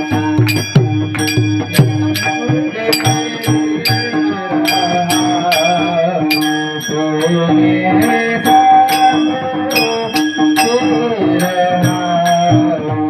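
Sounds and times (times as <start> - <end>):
small hand cymbals ringing: 0.0 - 13.0
sustained steady tones: 0.0 - 13.0
wavering melody: 0.0 - 13.0.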